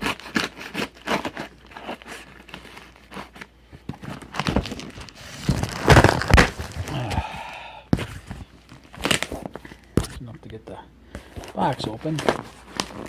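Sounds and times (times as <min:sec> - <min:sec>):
cardboard box crinkling: 0:00.0 - 0:07.3, 0:08.0 - 0:09.8, 0:11.2 - 0:13.0
packing tape peeled and torn: 0:00.0 - 0:07.3, 0:08.1 - 0:10.0, 0:11.3 - 0:13.0.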